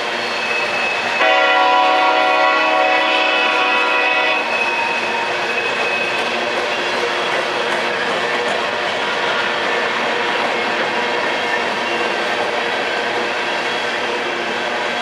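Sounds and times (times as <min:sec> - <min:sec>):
freight train rattling past: 0:00.0 - 0:15.0.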